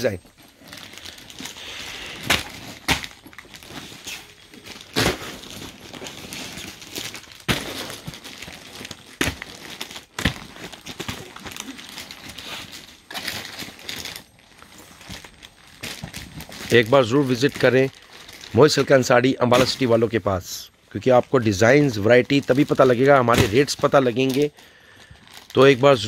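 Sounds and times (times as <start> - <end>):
packaging and cloth rustling: 0.0 - 26.0.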